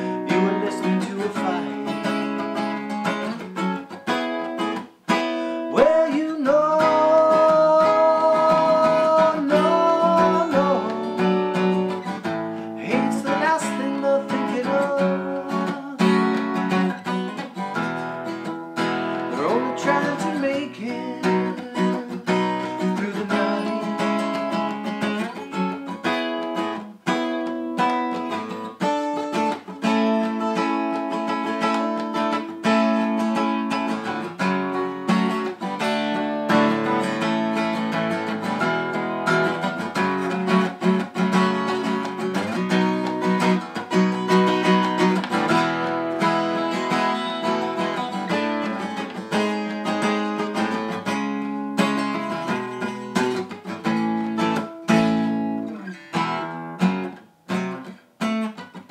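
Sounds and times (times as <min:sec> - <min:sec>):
acoustic guitar strumming chords: 0:00.0 - 0:58.9.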